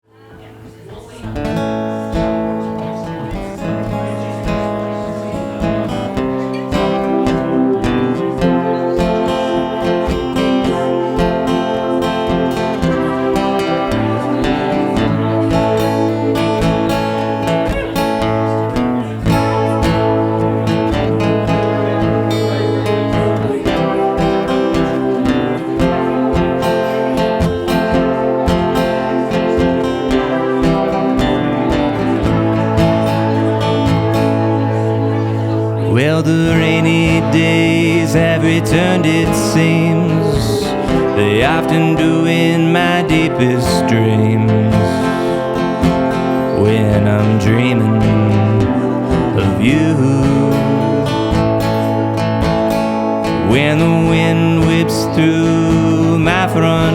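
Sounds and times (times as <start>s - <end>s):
acoustic guitar playing: 0.0s - 56.9s.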